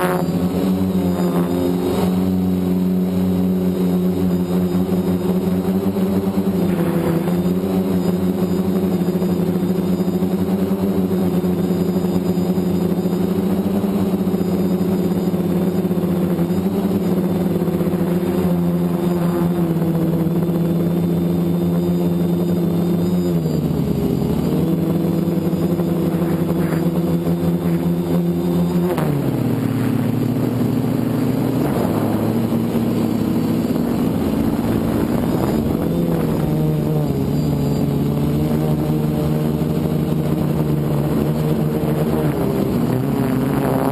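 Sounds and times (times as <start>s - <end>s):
drone propellers buzzing: 0.0s - 43.9s.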